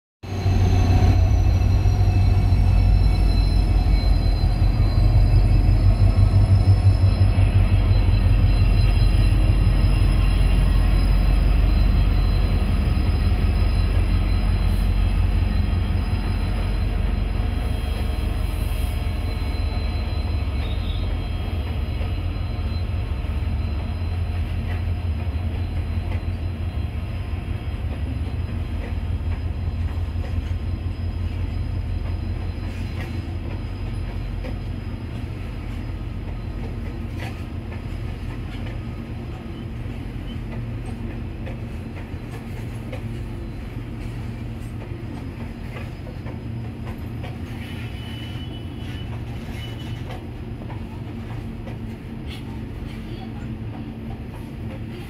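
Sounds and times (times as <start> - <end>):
diesel locomotives rumbling: 0.2 - 55.0.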